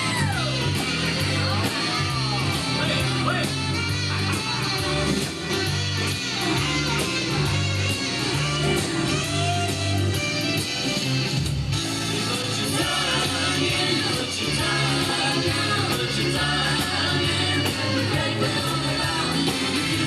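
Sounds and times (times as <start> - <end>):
guitar: 0.0 - 20.0
repeating bass line: 0.0 - 20.0
rock and roll music: 0.0 - 20.0.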